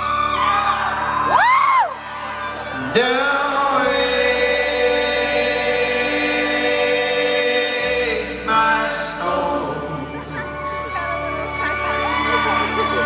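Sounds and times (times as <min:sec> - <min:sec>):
held choir-like voices: 0:00.0 - 0:13.0
live band sustained chords: 0:00.0 - 0:13.0.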